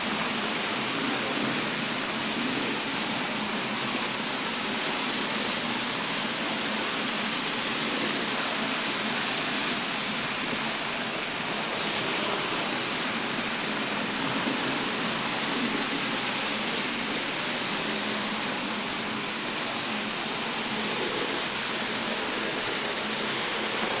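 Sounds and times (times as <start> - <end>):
model trains whirring on track: 0.0 - 24.0.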